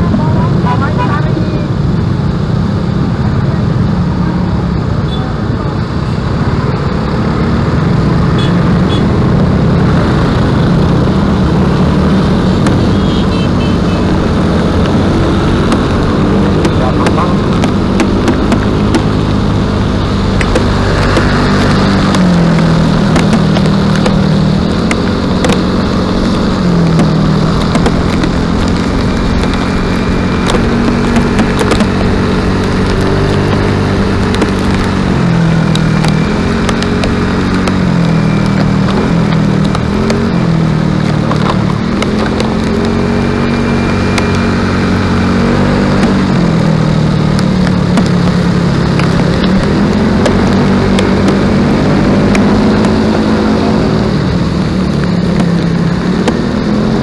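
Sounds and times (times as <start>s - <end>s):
steady rushing noise: 0.0s - 57.0s
engine changing speed: 6.3s - 57.0s.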